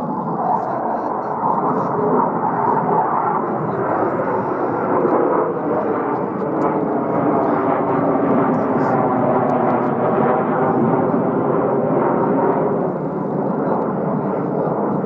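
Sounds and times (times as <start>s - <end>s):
jet flying overhead: 0.0s - 15.0s.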